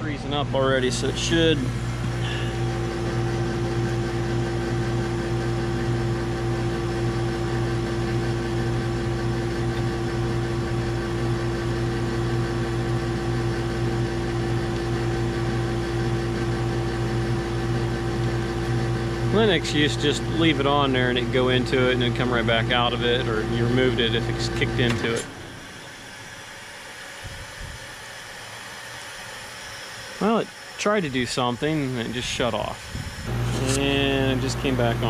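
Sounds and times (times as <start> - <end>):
heat pump unit humming: 0.0 - 35.0.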